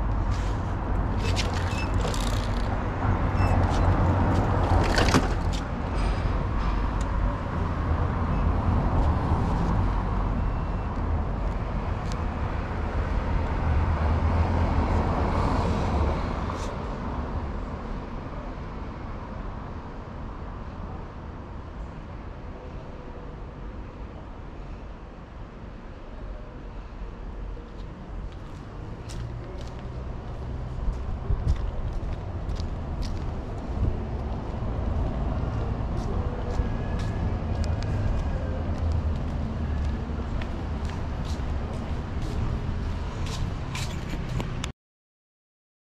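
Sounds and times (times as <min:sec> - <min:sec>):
road traffic with passing cars: 0:00.0 - 0:44.7.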